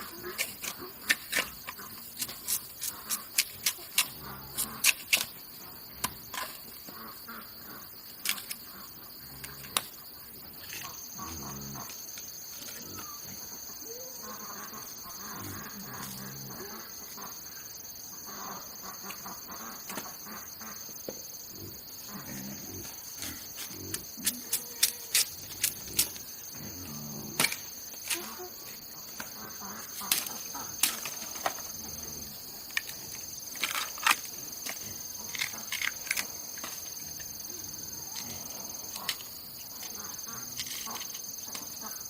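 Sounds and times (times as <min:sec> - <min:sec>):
insects buzzing: 0:00.0 - 0:42.0.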